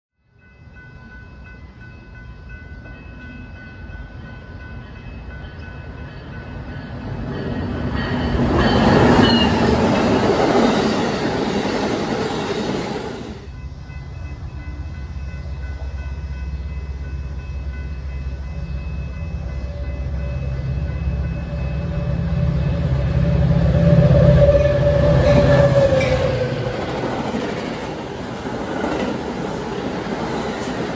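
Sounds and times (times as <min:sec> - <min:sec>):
diesel train passing at speed: 0:00.2 - 0:30.9.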